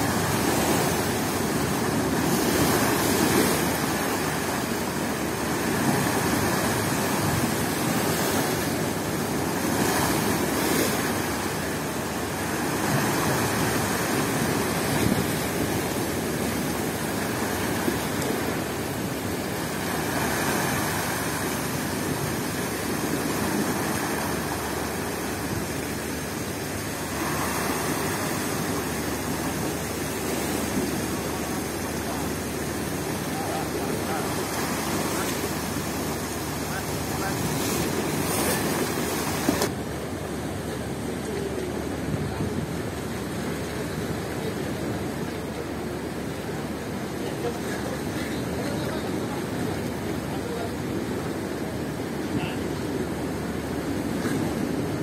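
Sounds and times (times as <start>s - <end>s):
storm surf breaking on concrete: 0.0s - 55.0s.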